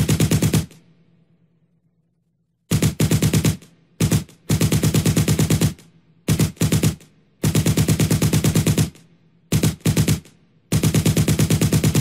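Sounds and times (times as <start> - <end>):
machine gun automatic fire: 0.0 - 0.8, 2.7 - 12.0.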